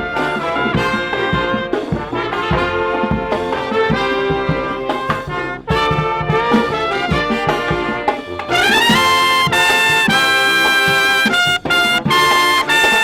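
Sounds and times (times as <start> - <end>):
brass band with drums: 0.0 - 13.0.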